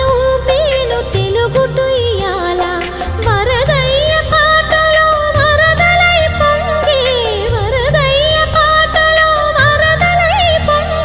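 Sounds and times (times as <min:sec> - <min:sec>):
indian song with ornamented melody: 0:00.0 - 0:11.0.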